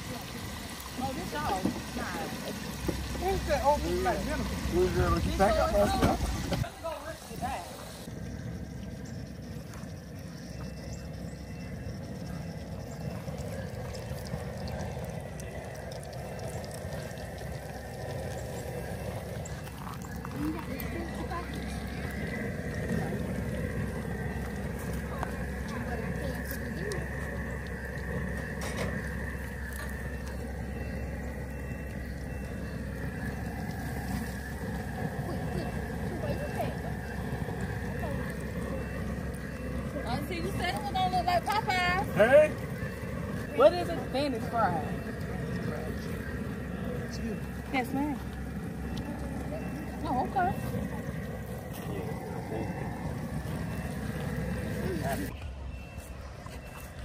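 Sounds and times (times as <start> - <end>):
frying oil crackling: 0.0 - 10.2, 12.0 - 55.3
propane burner rumble: 0.0 - 57.0.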